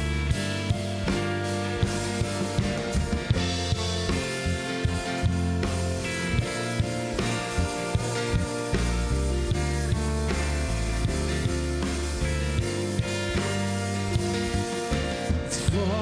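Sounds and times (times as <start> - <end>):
drum kit beat: 0.0 - 16.0
guitar: 0.0 - 16.0
sustained bass notes: 0.0 - 16.0.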